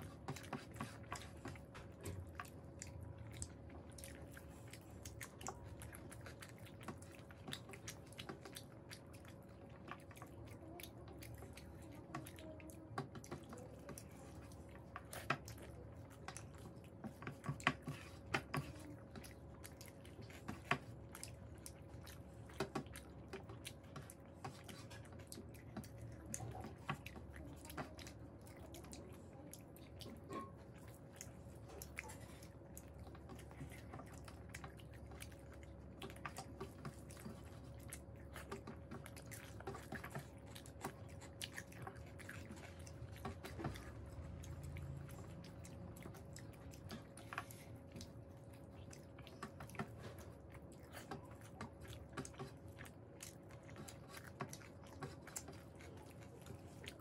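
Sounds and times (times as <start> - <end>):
faint steady hum: 0.0 - 57.0
people chewing: 0.0 - 57.0.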